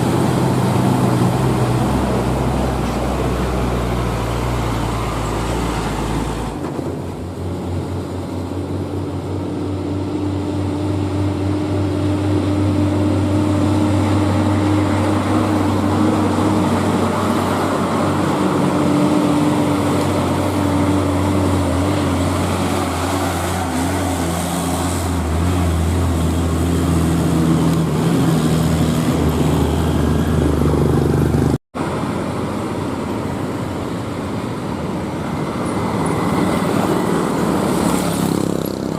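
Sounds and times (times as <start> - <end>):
diesel truck engine under load: 0.0 - 38.9.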